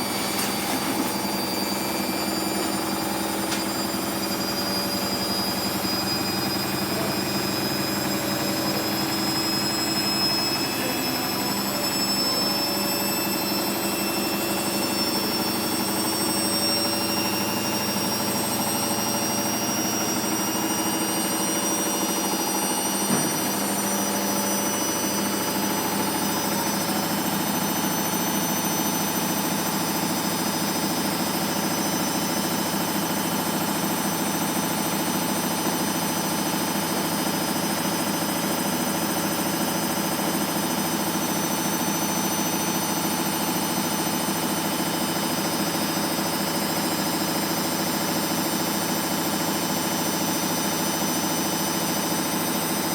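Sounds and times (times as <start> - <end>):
washing machine spinning: 0.0 - 52.9.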